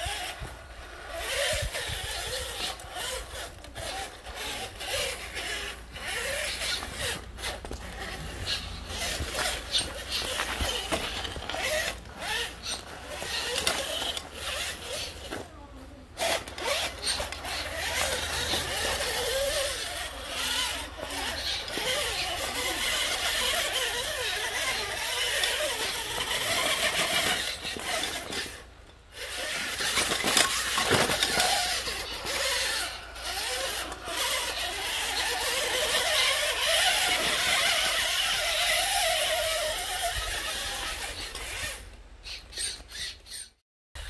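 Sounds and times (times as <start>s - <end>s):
rc car gear whine: 0.0s - 44.0s.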